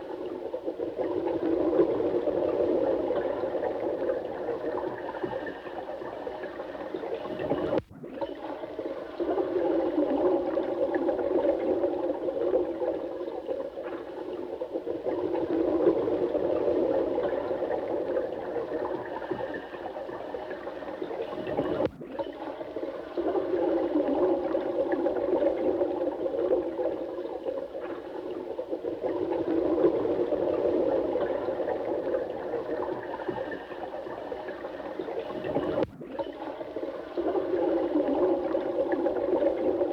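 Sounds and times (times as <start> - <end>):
running water gurgling: 0.0 - 39.9.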